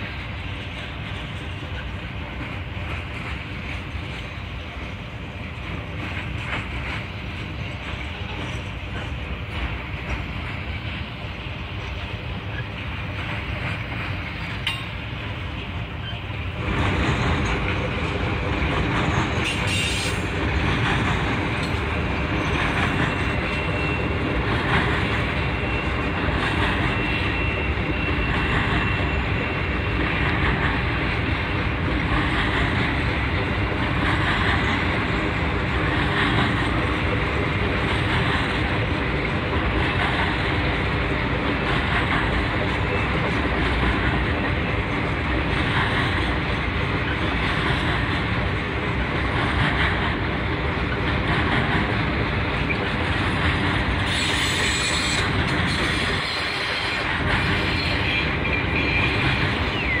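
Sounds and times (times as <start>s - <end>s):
train clattering over rails: 0.0s - 60.0s.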